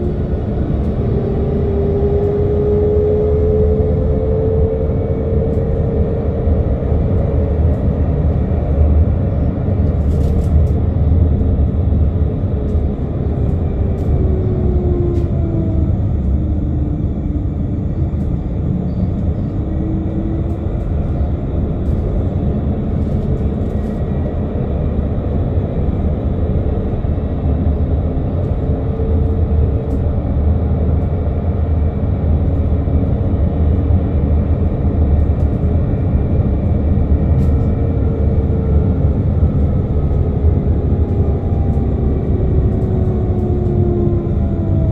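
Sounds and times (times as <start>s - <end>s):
bus rumble: 0.0s - 44.9s.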